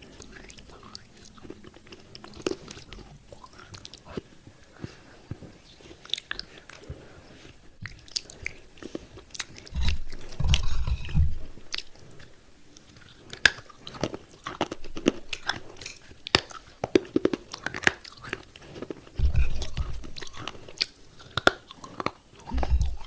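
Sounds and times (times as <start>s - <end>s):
chewing crunchy clay pieces: 0.0s - 5.0s, 5.6s - 6.9s, 7.8s - 23.0s.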